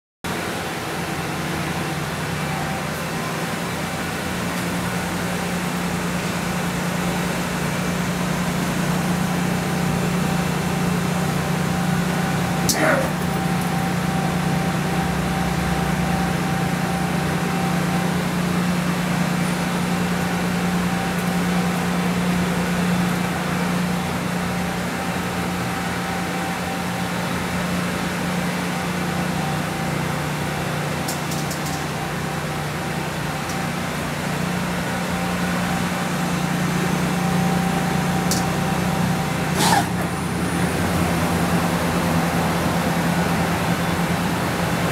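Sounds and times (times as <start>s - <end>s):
machine hum with thin whine: 0.4s - 44.9s.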